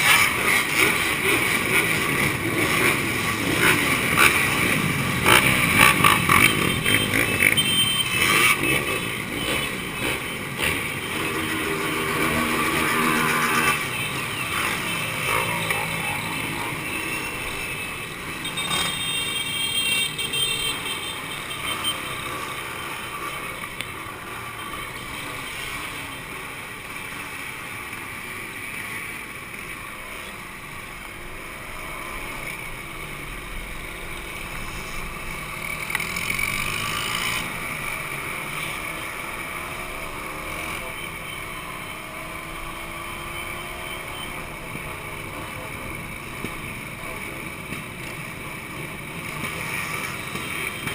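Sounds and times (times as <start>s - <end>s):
two-stroke motorcycle engines revving: 0.0s - 50.9s.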